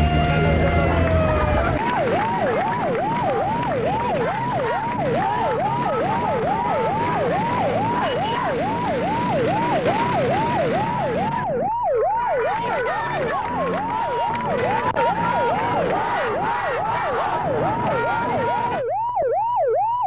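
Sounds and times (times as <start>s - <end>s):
siren yelping: 0.0s - 20.0s
street noise: 0.0s - 20.0s.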